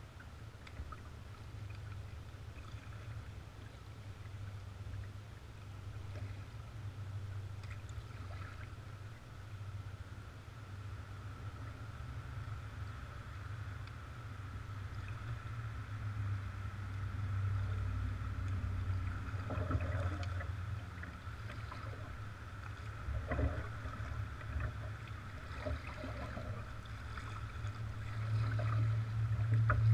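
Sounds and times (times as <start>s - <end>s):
paddle splashes and water drips: 0.0s - 29.9s
low rumble: 4.0s - 29.9s.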